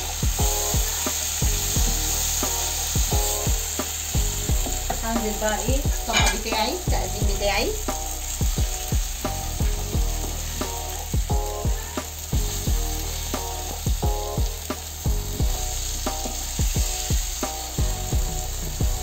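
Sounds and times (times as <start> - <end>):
background music with beat: 0.0 - 19.0
sausages sizzling in a pan: 0.0 - 19.0.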